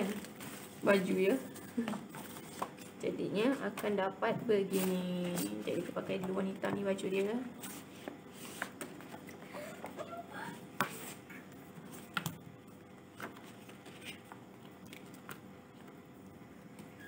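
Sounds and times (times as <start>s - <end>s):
paper and card rustling: 0.0s - 4.0s, 4.6s - 12.3s, 13.1s - 16.0s.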